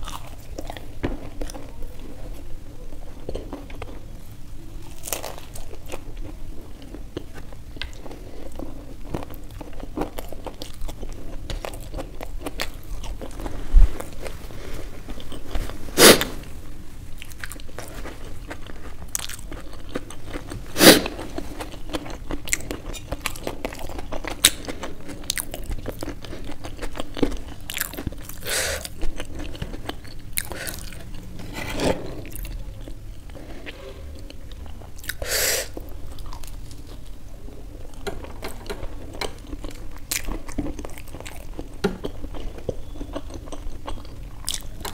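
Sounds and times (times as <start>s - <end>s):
crisp pastry crunching: 4.8s - 15.9s, 17.1s - 33.4s, 34.3s - 44.9s.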